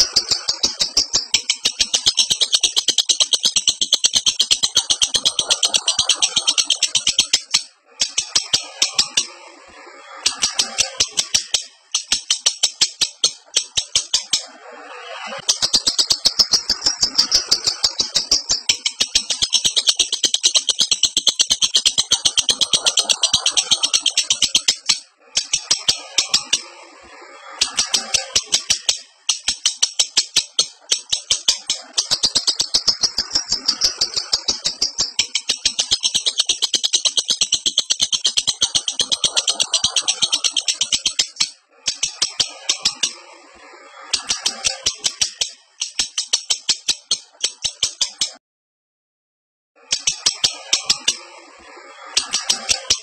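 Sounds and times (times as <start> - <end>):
lovebird chattering: 0.0 - 9.4, 10.2 - 26.7, 27.6 - 43.2, 44.2 - 48.4, 49.9 - 51.3, 52.2 - 53.0.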